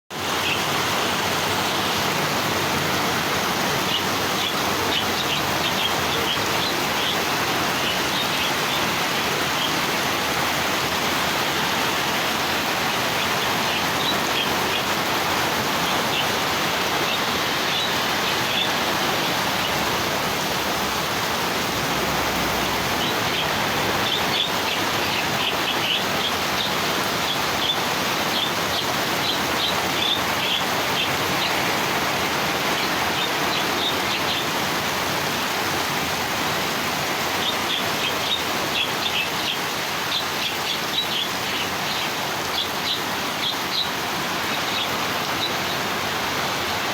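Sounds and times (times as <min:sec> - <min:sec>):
loud steady hiss: 0:00.1 - 0:46.9
small birds chirping: 0:00.2 - 0:34.9, 0:36.6 - 0:46.9.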